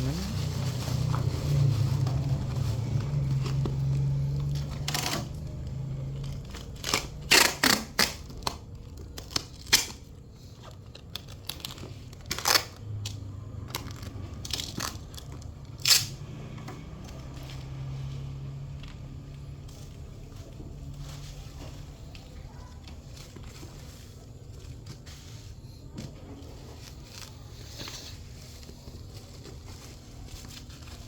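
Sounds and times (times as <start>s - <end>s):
bubble wrap crinkling: 0.0s - 16.2s, 16.8s - 31.0s.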